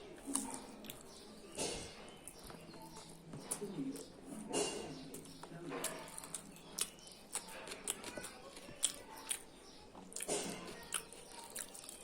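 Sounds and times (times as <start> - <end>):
chewing and mouth noises: 0.0 - 12.0.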